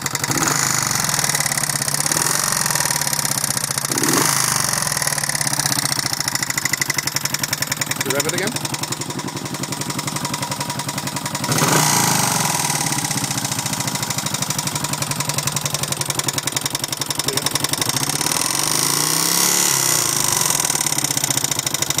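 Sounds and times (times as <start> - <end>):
motorcycle engine revving: 0.0 - 22.0
rapid engine clicking: 0.0 - 22.0.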